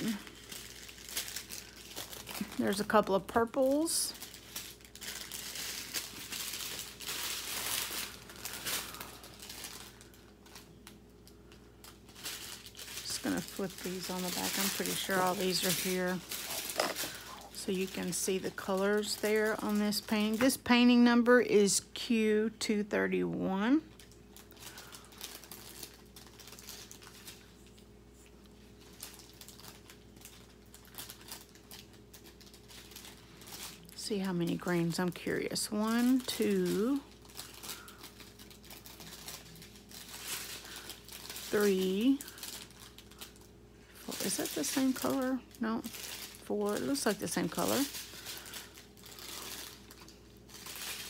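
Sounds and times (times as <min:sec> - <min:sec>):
plastic bags crinkling: 0:00.0 - 0:22.1, 0:23.7 - 0:51.0.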